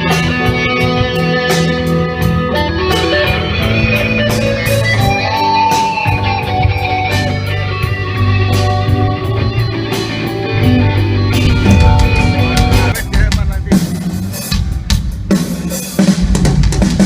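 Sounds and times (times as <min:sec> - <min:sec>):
electric guitar: 0:00.0 - 0:17.0
live band playing: 0:00.0 - 0:17.0.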